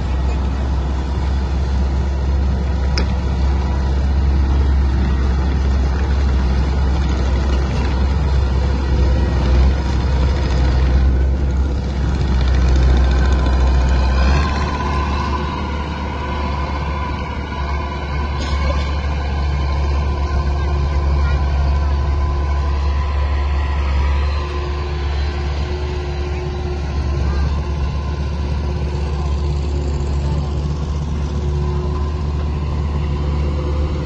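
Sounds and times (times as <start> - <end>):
heavy machine engine rumbling: 0.0 - 34.0.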